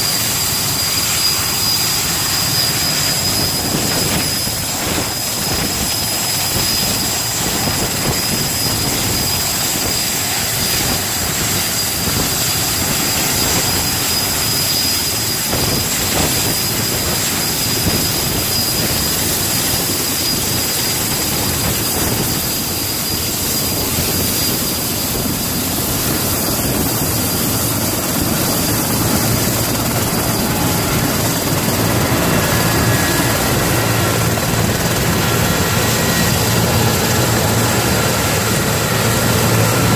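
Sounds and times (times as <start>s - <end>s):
helicopter rotor rushing: 0.0s - 39.9s
high turbine whine: 0.0s - 39.9s.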